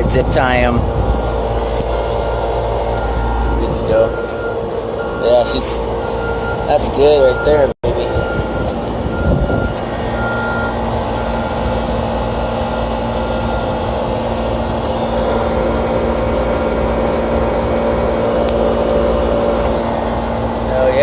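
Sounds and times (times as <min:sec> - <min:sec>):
air conditioner condenser humming: 0:00.0 - 0:21.0.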